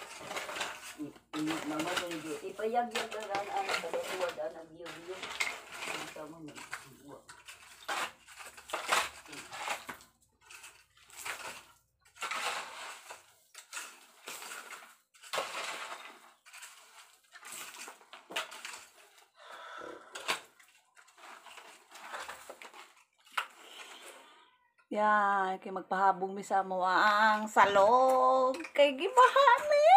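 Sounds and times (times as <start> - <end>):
shovel scraping soil and rubble: 0.0 - 24.5, 27.2 - 29.9.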